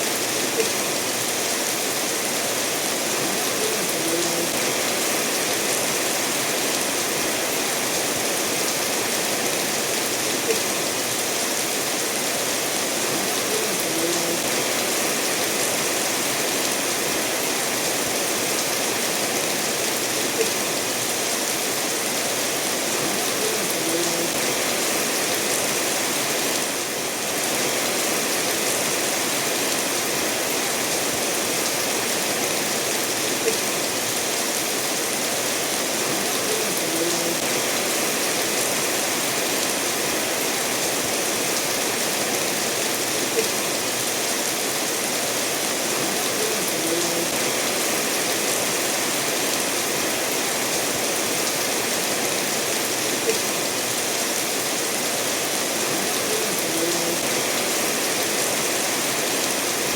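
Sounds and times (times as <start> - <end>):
river flowing over stones: 0.0 - 59.9
steady rainfall: 0.0 - 59.9.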